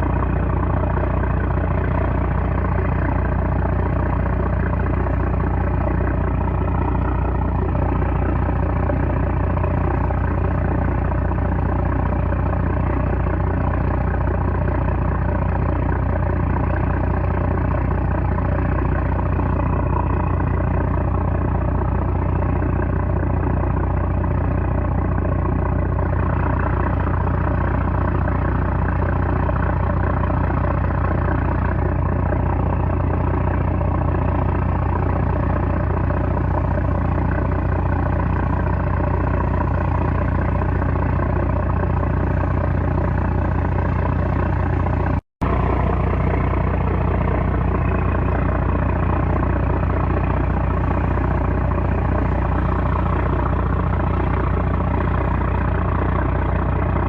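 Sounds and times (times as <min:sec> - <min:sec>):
boat diesel engine drone: 0:00.0 - 0:57.0.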